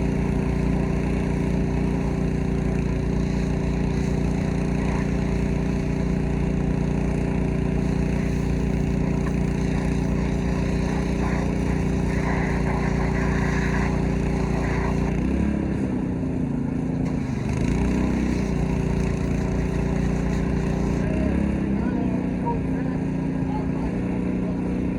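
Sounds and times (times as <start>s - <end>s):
pressure washer engine running: 0.0s - 24.9s.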